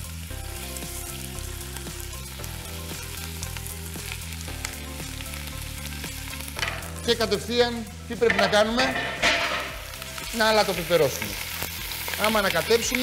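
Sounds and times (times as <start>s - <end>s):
beef sizzling in hot oil: 0.0s - 13.0s.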